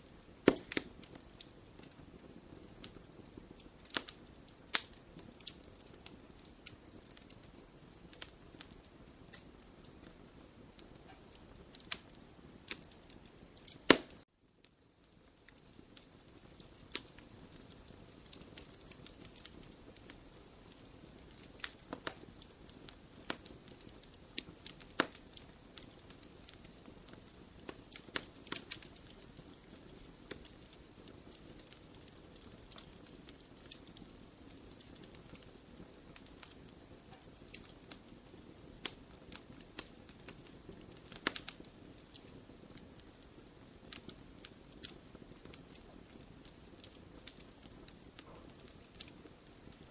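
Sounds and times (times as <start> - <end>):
soft hiss of fire: 0.0 - 49.9
wood fire crackling and popping: 0.0 - 49.9.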